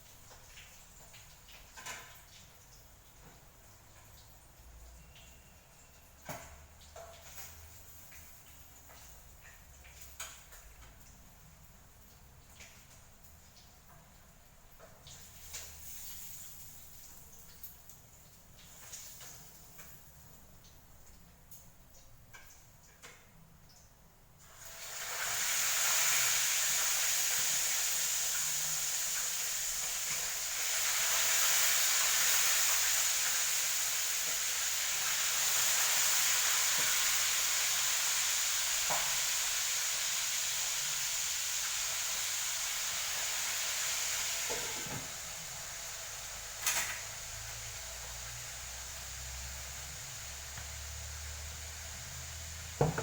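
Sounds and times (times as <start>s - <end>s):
food sizzling in hot oil: 0.0s - 21.2s, 24.4s - 53.0s.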